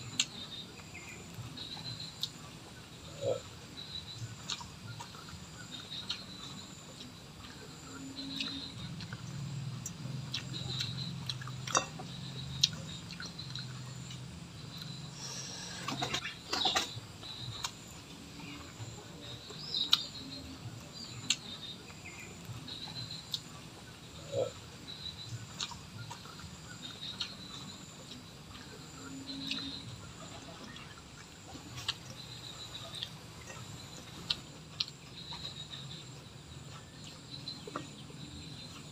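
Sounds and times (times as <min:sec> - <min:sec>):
bird chirps: 0:00.1 - 0:38.9
close chewing and lip smacks: 0:03.4 - 0:15.0, 0:17.2 - 0:23.9, 0:24.6 - 0:38.9.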